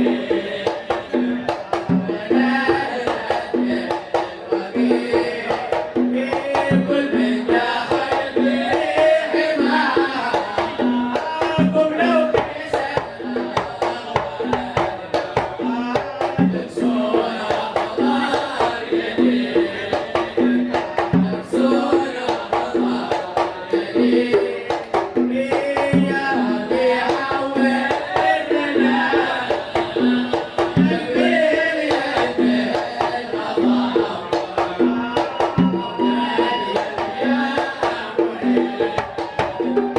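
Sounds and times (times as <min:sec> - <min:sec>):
hand drums beating: 0:00.0 - 0:39.9
person singing religious song: 0:00.0 - 0:39.9.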